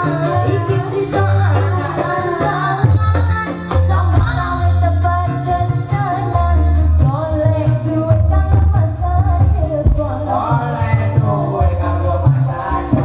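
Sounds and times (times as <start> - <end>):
song with heavy bass: 0.0 - 13.0.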